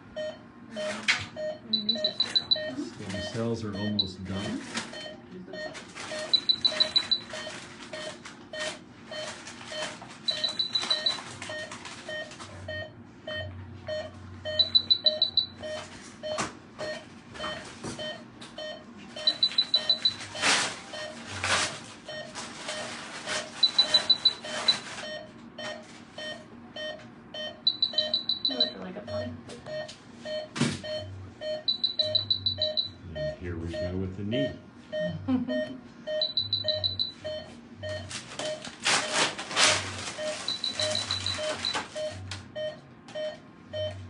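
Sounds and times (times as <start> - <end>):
monitor pulse beeps: 0.0 - 21.2, 22.1 - 44.0
high-pitched alarm beeps: 0.2 - 21.2, 22.1 - 39.2, 40.2 - 44.0.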